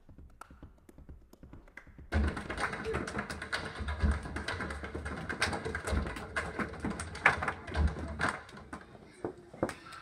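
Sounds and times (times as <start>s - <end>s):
dance taps and stomps: 0.0s - 8.9s.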